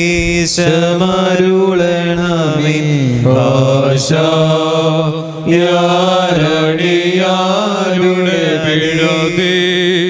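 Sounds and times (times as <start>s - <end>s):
liturgical chant singing: 0.0s - 10.0s.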